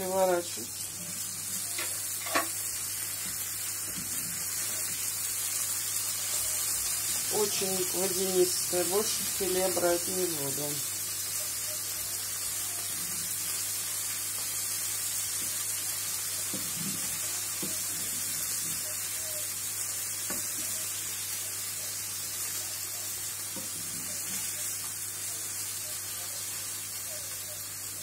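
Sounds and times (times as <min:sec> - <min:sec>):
fish sizzling in a frying pan: 0:00.0 - 0:28.0.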